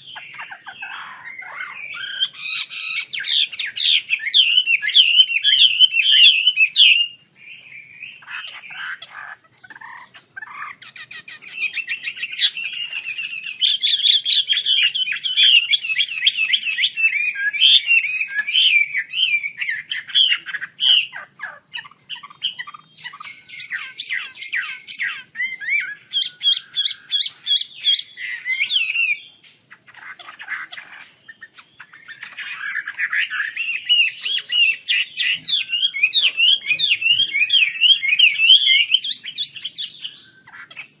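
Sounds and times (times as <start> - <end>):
bird singing whistled phrases: 0.0 - 9.0, 9.6 - 21.2, 21.8 - 29.4, 31.3 - 41.0.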